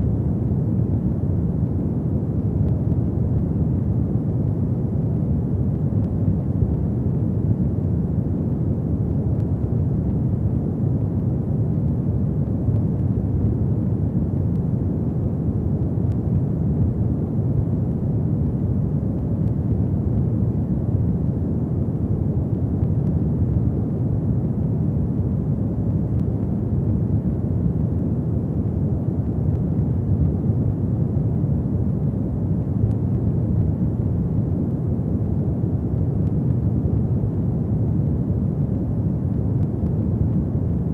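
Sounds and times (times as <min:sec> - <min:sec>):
faint fire crackles: 0:00.0 - 0:40.9
fireplace fire burning: 0:00.0 - 0:40.9.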